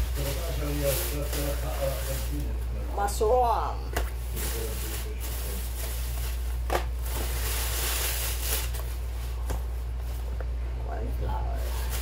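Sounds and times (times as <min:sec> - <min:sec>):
plastic bag rustling: 0:00.0 - 0:03.4, 0:04.1 - 0:10.4, 0:11.5 - 0:12.0
steady low hum: 0:00.0 - 0:12.0.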